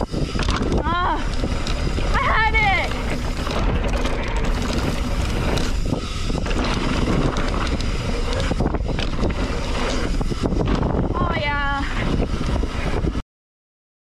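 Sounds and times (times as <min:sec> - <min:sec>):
bike rattling on rough ground: 0:00.0 - 0:13.2
tyres on dirt trail: 0:00.0 - 0:13.2
wind buffeting microphone: 0:00.0 - 0:13.2.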